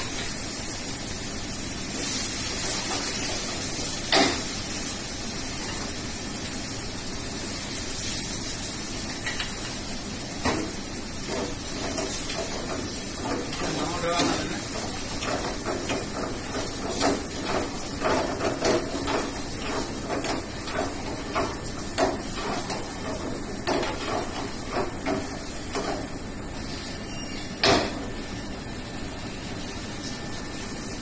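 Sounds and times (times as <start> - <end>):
gas burner hiss: 0.0 - 31.0.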